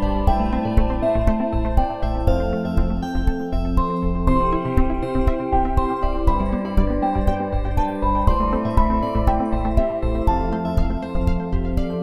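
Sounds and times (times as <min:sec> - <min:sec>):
music with held chords and beat: 0:00.0 - 0:12.0.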